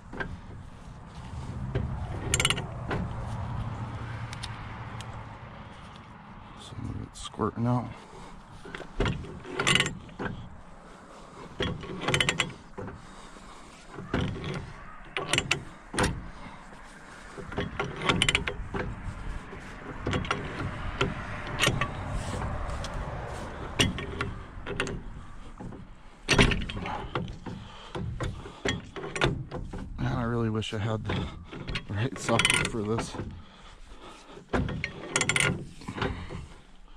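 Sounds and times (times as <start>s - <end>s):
pipe wrench clanking on metal: 0.0s - 3.2s, 8.0s - 36.9s.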